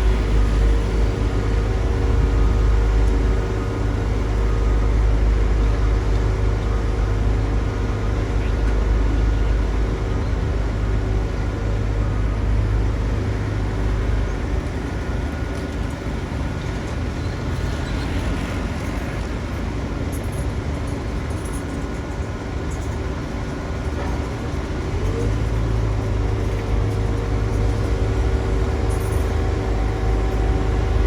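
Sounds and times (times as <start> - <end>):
diesel engine rumble: 0.0 - 31.0.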